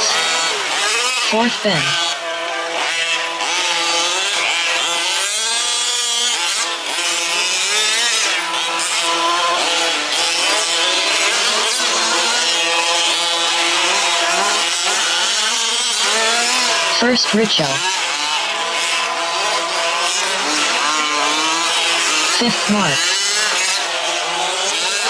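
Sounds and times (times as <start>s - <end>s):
small two-stroke engines revving: 0.0s - 25.0s.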